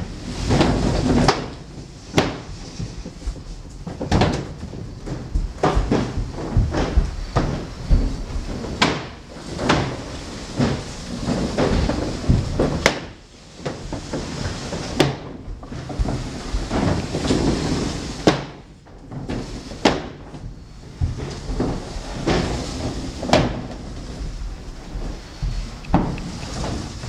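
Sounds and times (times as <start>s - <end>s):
low rattling and rumbling: 0.0s - 27.0s.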